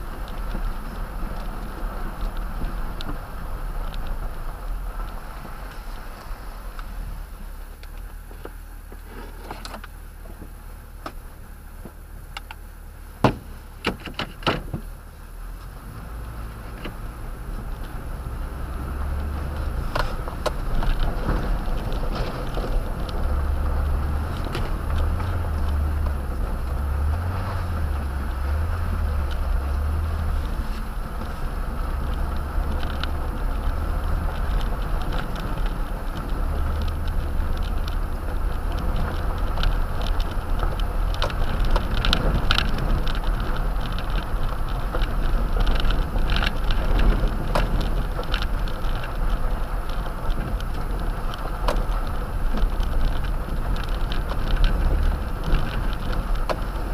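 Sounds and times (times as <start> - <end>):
engine rumble inside vehicle: 0.0 - 56.9
tyres on gravel: 0.0 - 56.9.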